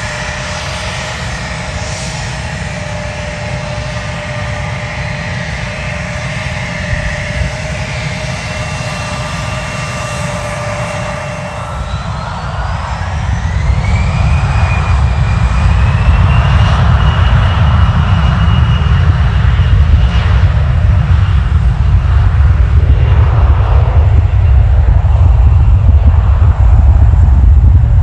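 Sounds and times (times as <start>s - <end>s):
aircraft engines spooling up: 0.0s - 28.0s.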